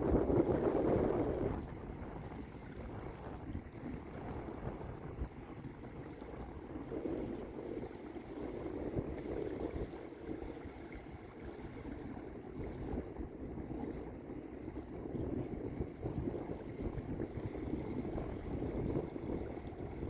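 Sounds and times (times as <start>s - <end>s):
small waves lapping on beach: 0.0s - 20.0s.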